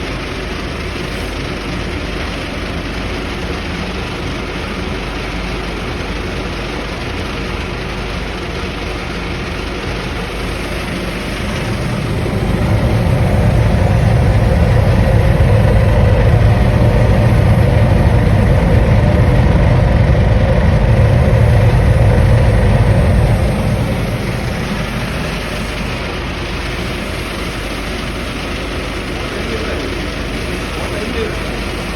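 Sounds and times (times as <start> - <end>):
vibratory machine hum: 0.0 - 31.9.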